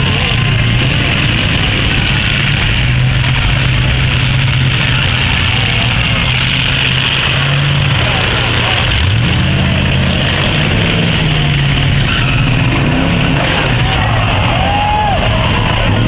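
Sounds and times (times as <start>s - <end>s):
car engines droning: 0.0s - 16.0s.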